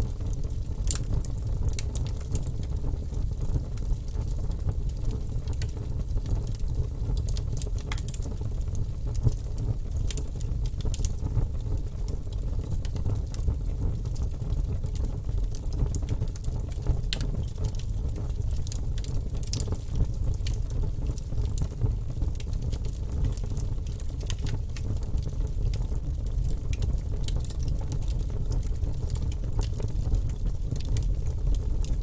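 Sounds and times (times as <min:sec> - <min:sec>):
fire crackling and popping: 0:00.0 - 0:32.0
wood fire rumbling: 0:00.0 - 0:32.0.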